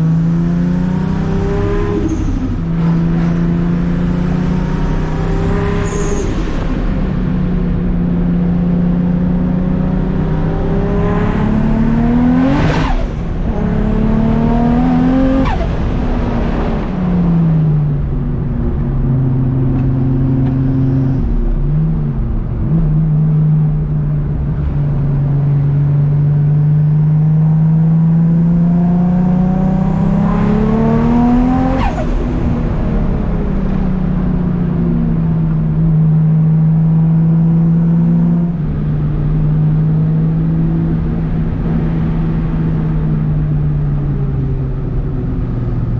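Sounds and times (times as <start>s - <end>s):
car engine revving: 0.0s - 43.5s.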